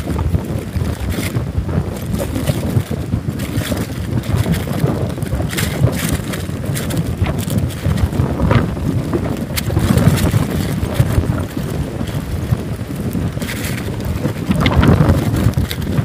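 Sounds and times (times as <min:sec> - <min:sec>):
rustles and knocks in sack: 0:00.0 - 0:16.0
wind buffeting microphone: 0:00.0 - 0:16.0.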